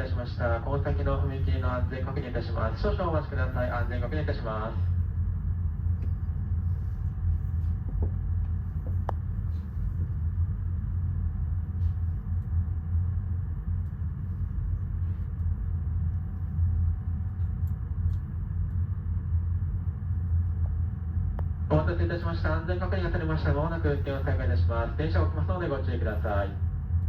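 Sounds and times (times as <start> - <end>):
faint steady whine: 0.0 - 27.0
train equipment low hum: 0.0 - 27.0.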